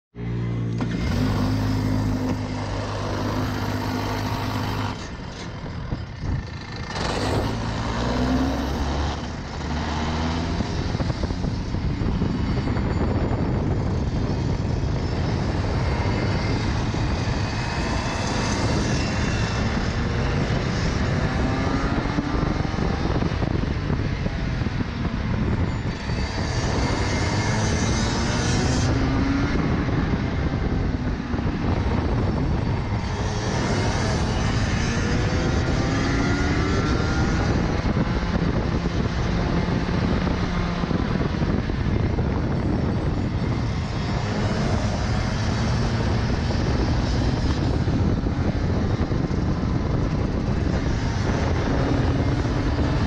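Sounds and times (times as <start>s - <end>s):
kart engine idling and revving: 0.1s - 53.0s.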